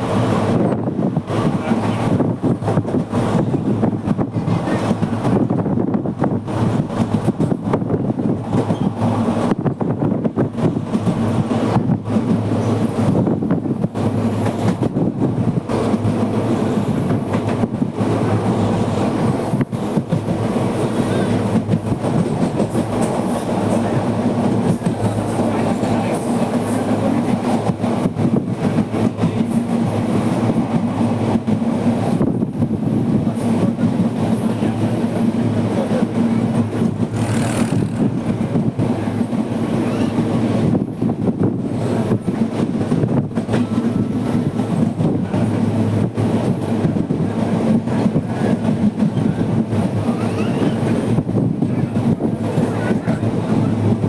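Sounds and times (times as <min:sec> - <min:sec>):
train carriage rumbling and rattling: 0:00.0 - 0:54.0
train wheels on rails: 0:00.0 - 0:54.0.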